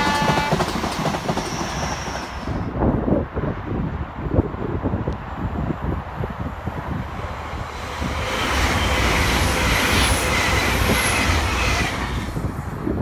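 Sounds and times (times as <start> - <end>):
passenger train passing at speed: 0.0 - 13.0.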